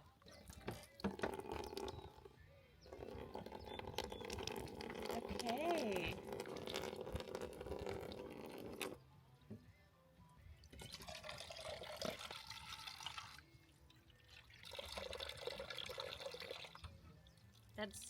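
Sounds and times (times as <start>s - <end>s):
running water: 0.3s - 2.3s, 2.9s - 9.0s, 10.6s - 18.0s.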